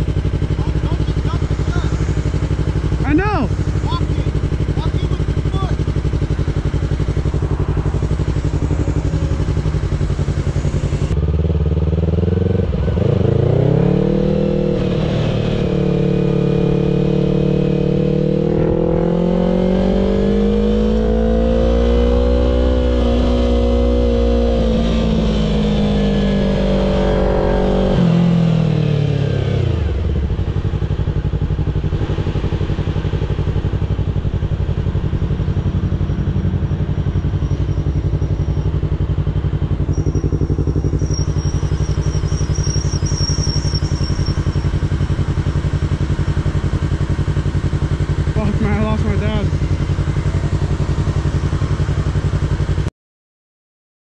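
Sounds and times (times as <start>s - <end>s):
motorcycle engine idling and revving: 0.0s - 52.9s.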